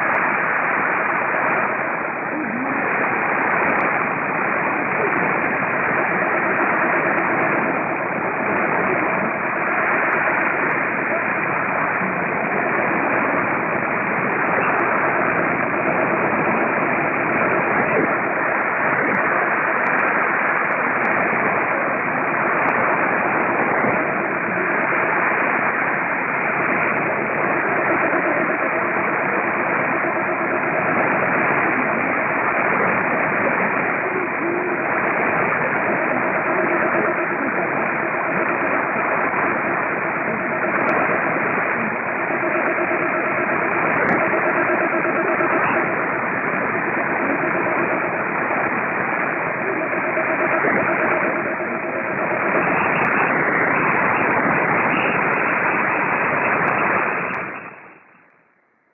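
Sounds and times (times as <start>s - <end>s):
faint radio station: 0.0s - 58.9s
radio static and hiss: 0.0s - 58.9s.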